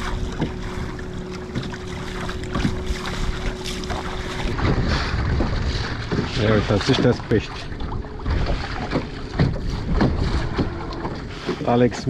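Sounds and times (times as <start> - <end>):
boat motor humming: 0.0 - 12.0
wind on microphone: 1.9 - 12.0.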